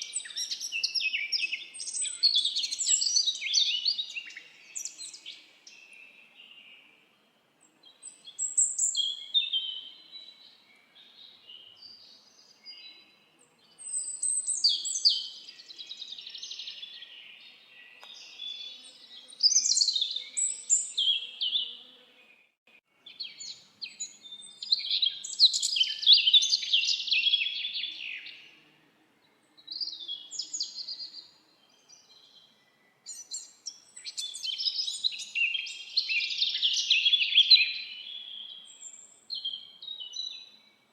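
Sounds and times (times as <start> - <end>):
songbirds twittering: 0.0 - 7.0, 7.6 - 28.6, 29.2 - 40.9.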